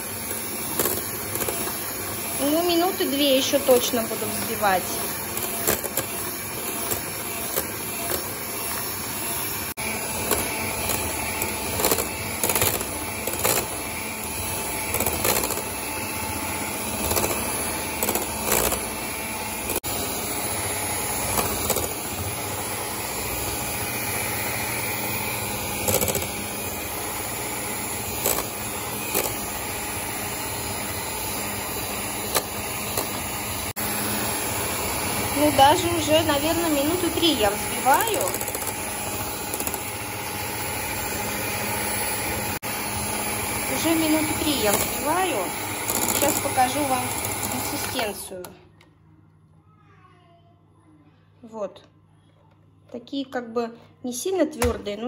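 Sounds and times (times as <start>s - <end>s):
electric mixer running: 0.0s - 48.6s.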